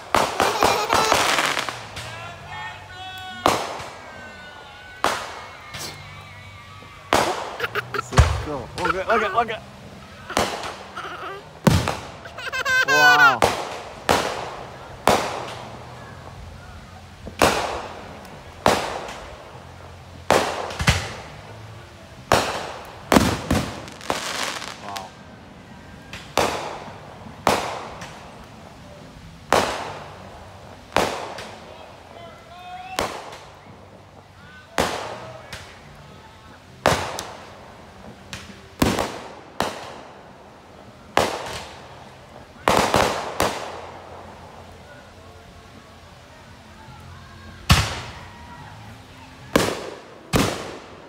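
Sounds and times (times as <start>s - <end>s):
fireworks bangs with rolling echo: 0.0s - 6.0s, 7.1s - 25.3s, 26.0s - 32.2s, 32.8s - 36.0s, 36.7s - 45.1s, 47.7s - 48.2s, 49.4s - 51.0s.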